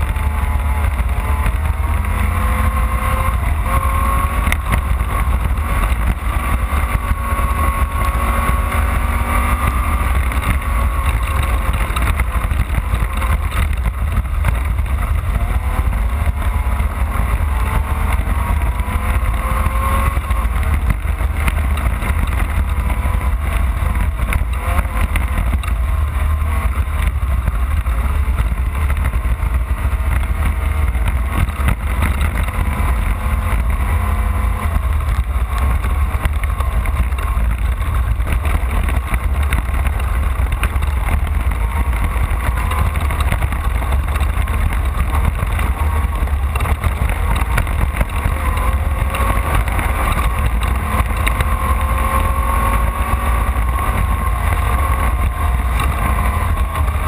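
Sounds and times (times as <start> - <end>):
heavy low rumble: 0.0 - 57.0
race vehicle engine running: 0.0 - 57.0.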